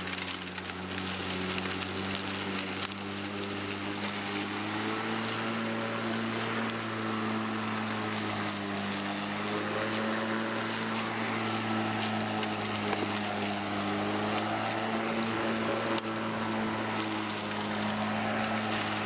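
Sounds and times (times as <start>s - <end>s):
electric lawn mower humming: 0.0s - 19.0s
mower cutting grass: 0.0s - 19.0s.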